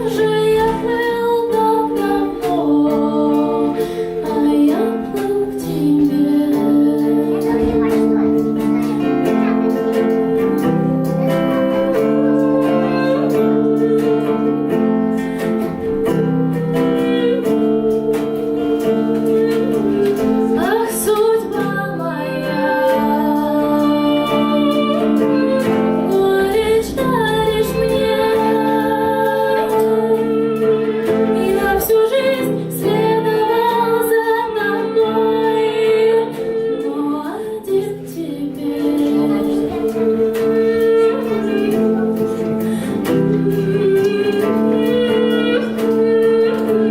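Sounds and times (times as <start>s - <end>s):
high voice singing: 0.0s - 46.9s
plucked strings: 0.0s - 46.9s.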